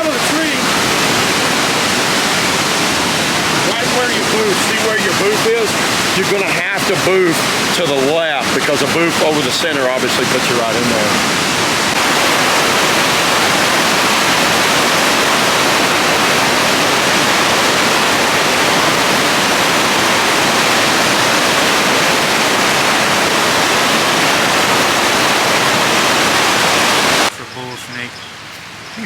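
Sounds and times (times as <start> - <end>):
water rushing over rocks: 0.0 - 27.7.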